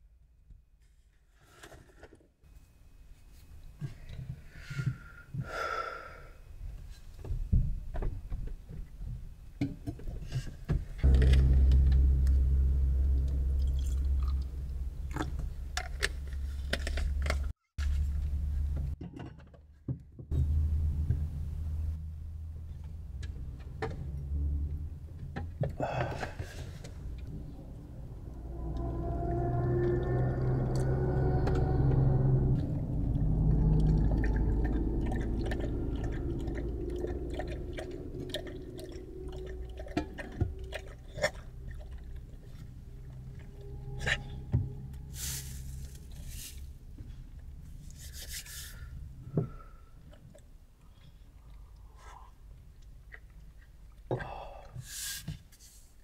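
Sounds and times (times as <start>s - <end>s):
low steady hum: 2.5s - 19.0s, 20.3s - 54.6s.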